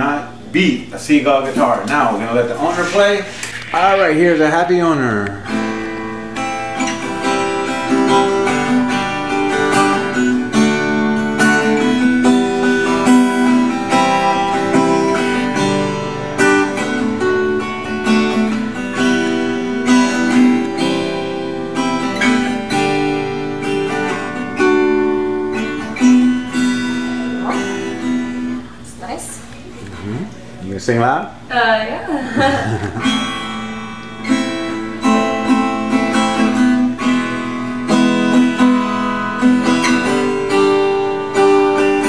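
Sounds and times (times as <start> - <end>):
acoustic guitar strummed chords: 0.0 - 28.8, 32.4 - 42.0.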